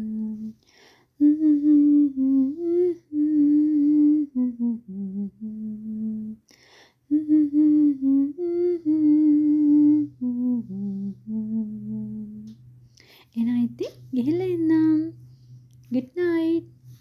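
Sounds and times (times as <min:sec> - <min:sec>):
person humming a melody: 0:00.0 - 0:12.6, 0:13.4 - 0:15.3.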